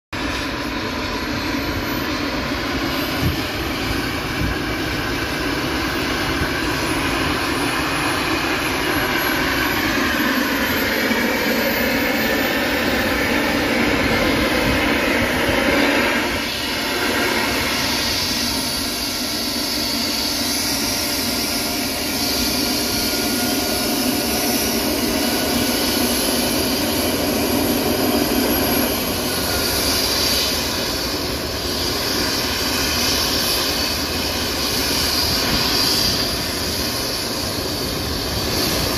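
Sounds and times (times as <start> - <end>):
helicopter turbine whine and rotor: 0.1 - 38.9.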